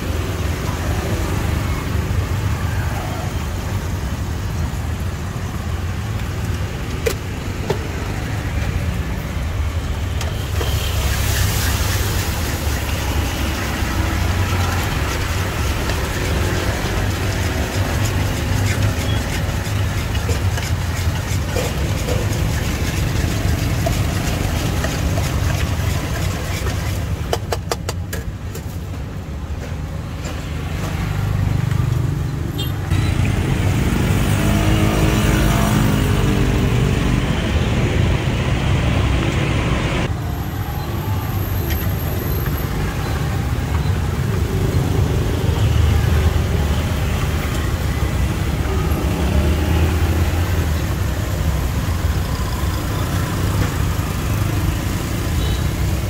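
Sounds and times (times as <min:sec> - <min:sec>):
street traffic noise: 0:00.0 - 0:56.0.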